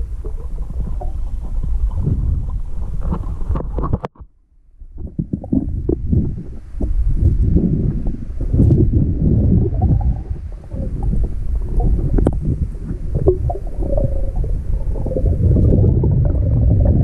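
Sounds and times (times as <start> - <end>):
muffled underwater rumbling: 0.0 - 17.0.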